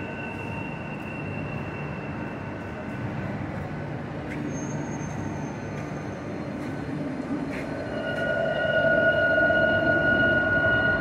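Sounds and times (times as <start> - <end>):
electric train whine: 0.0 - 11.0
rumbling din of trains: 0.0 - 11.0.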